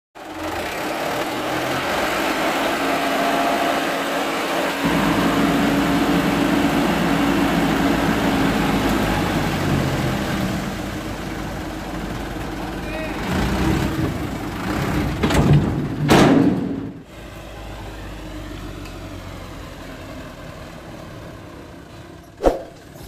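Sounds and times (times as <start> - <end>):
diesel truck engine running: 0.2 - 23.0.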